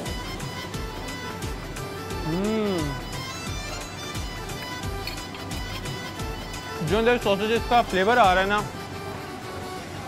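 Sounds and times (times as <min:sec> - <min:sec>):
music with held tones: 0:00.0 - 0:10.0.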